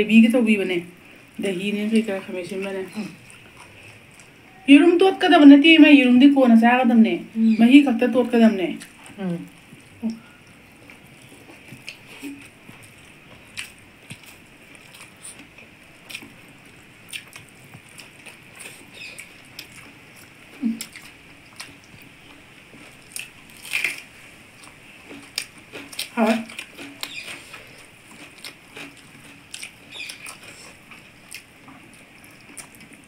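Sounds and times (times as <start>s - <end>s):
chewing and mouth sounds: 1.1s - 4.4s, 8.8s - 33.0s.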